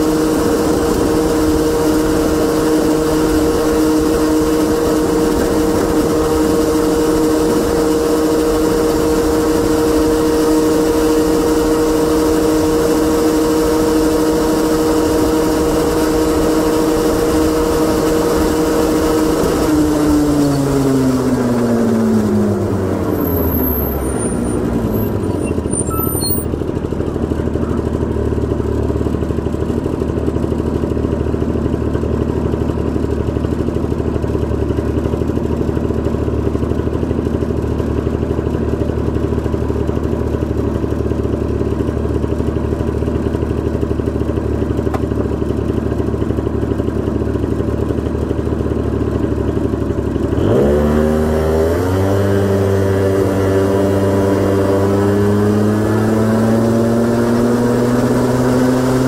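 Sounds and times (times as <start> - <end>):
two-stroke engine idling and revving: 0.0 - 59.0.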